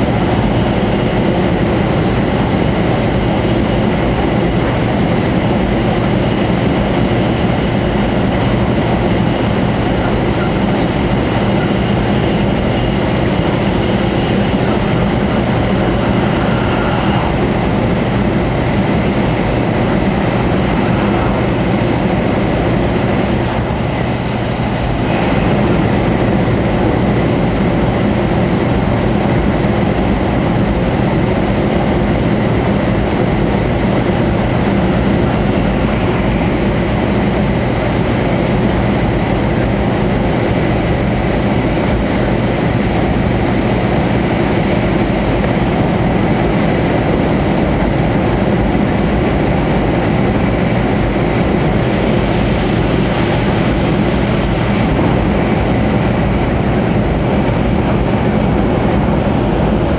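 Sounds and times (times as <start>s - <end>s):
train cabin rumble and rush: 0.0s - 59.9s.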